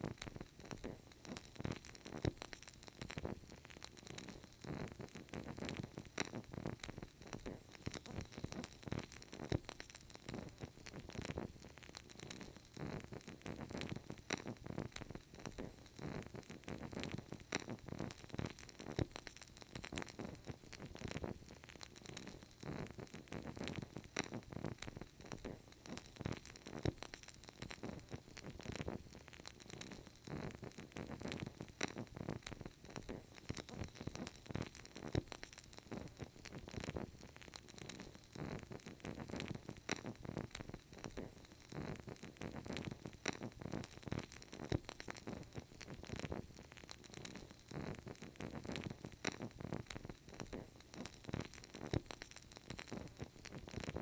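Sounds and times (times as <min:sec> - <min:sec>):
candle crackling: 0:00.0 - 0:54.0.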